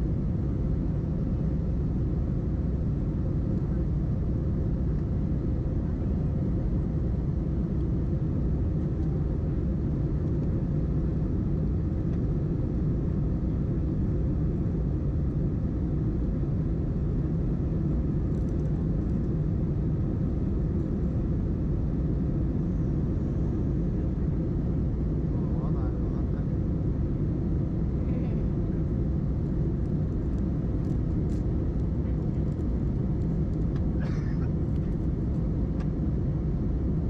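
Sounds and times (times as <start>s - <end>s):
faint steady hum: 0.0s - 37.0s
jet engine rumble: 0.0s - 37.0s.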